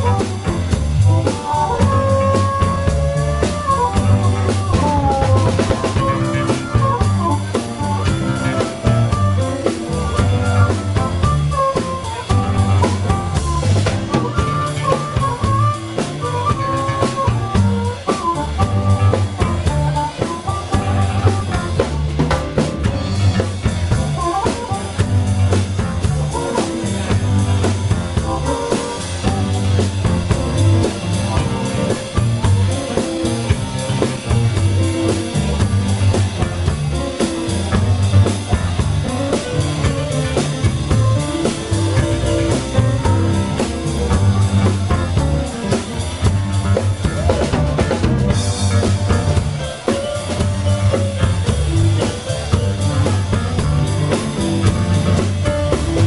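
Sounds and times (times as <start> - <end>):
harmonica solo: 0.0 - 22.3, 22.9 - 46.5
drum kit: 0.0 - 56.0
electric bass: 0.0 - 56.0
stage piano: 0.0 - 56.0.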